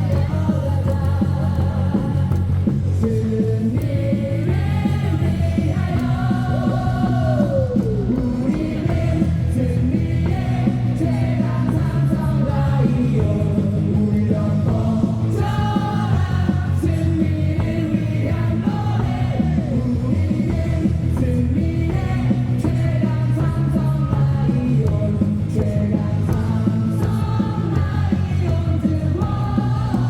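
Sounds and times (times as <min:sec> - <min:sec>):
amplified rock music: 0:00.0 - 0:30.0
crowd singing and shouting: 0:00.0 - 0:30.0.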